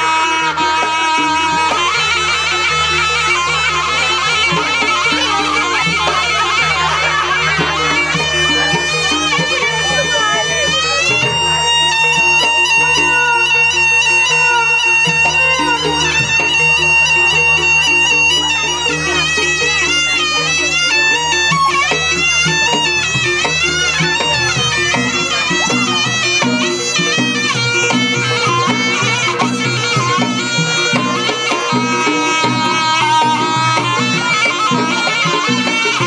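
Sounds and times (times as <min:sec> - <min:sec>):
drums beating: 0:00.0 - 0:36.0
gongs: 0:00.0 - 0:36.0
shrill double-reed melody: 0:00.0 - 0:36.0.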